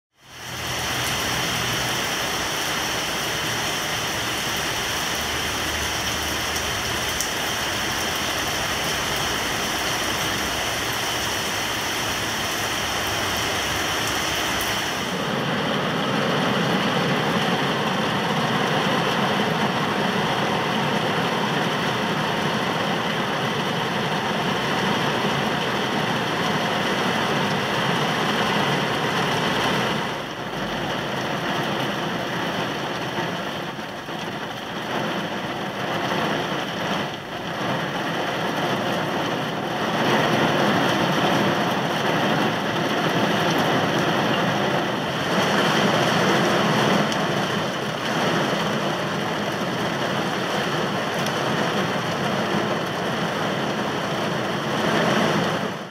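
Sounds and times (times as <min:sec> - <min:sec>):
heavy rain on car roof: 0:00.2 - 0:55.9.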